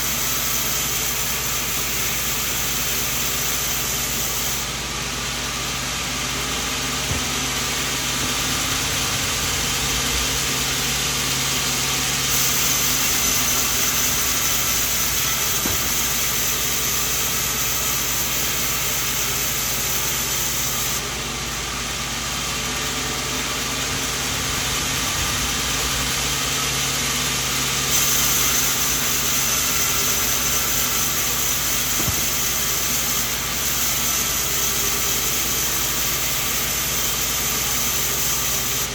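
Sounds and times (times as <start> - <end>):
saw blade cutting wood: 0.0 - 21.2, 23.0 - 38.9
band sawmill running: 0.0 - 38.9
machine hum: 1.5 - 38.9.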